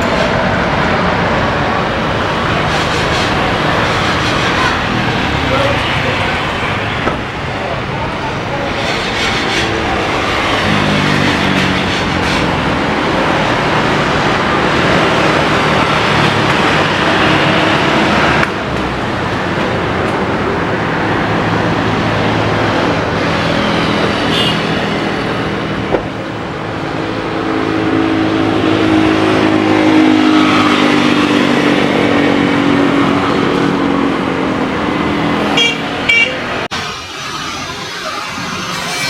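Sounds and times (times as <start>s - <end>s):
passing engine: 0.0s - 39.0s
road traffic noise: 0.0s - 39.0s.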